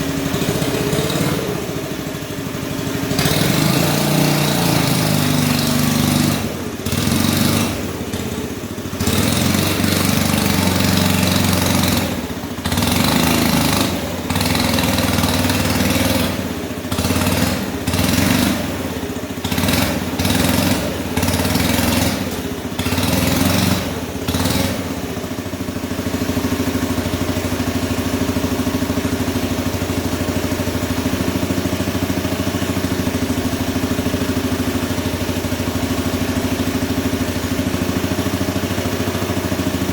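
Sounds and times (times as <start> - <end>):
small combustion engine revving: 0.0 - 39.9.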